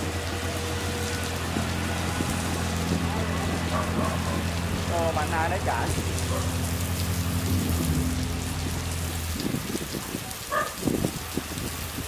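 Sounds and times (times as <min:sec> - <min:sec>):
heavy rain hissing: 0:00.0 - 0:12.0
low engine hum: 0:00.0 - 0:12.0.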